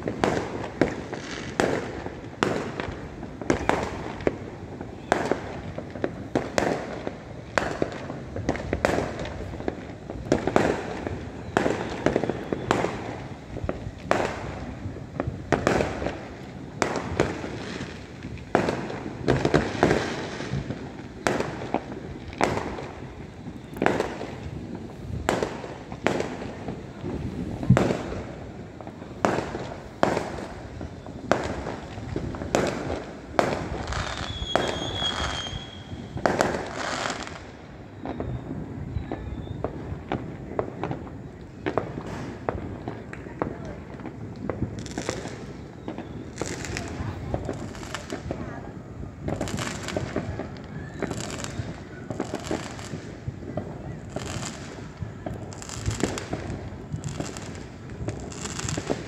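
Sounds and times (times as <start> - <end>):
firework shells booming: 0.0 - 48.5
rumble of firework bursts: 0.0 - 59.0.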